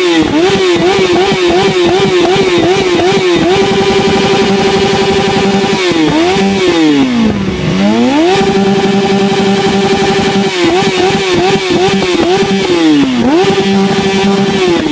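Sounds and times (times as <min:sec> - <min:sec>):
motorcycle engine at high revs: 0:00.0 - 0:14.9.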